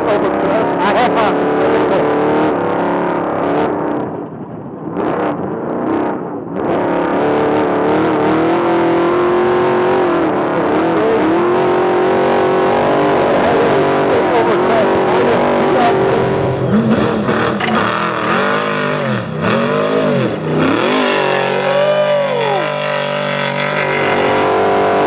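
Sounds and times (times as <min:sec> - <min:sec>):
truck engine running hard: 0:00.0 - 0:25.0.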